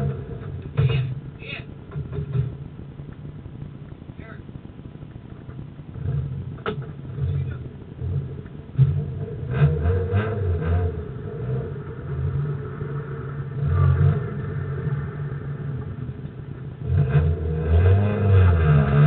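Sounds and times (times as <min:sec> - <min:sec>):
car engine revving: 0:00.0 - 0:03.0, 0:05.4 - 0:19.0.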